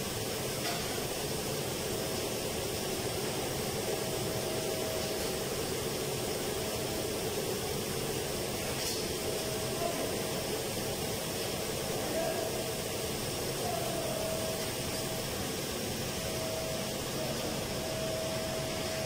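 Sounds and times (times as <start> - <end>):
air-conditioning fans humming: 0.0 - 19.0.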